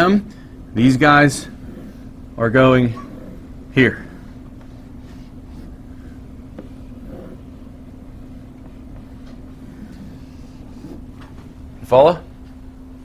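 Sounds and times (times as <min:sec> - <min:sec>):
steady low hum: 0:00.0 - 0:13.0
faint rumble: 0:00.3 - 0:13.0.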